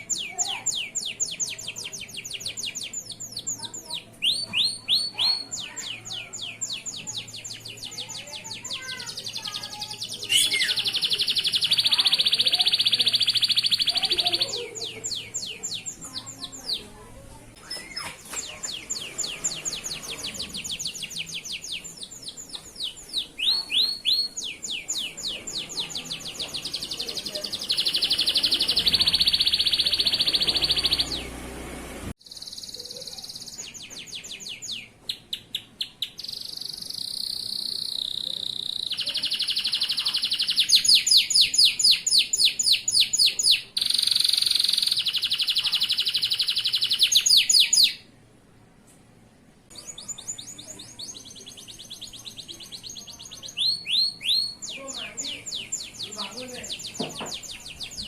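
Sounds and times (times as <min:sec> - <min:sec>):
canary singing trills: 0:00.0 - 0:31.6, 0:32.2 - 0:48.2, 0:49.7 - 0:58.0.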